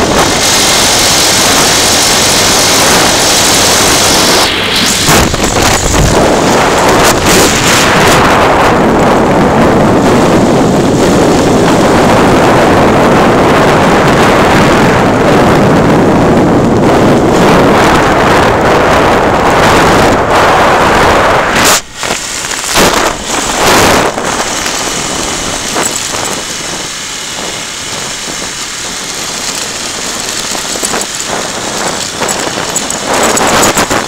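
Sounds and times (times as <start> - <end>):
motorcycle running: 0.0 - 34.0
wind rush on microphone: 0.0 - 34.0.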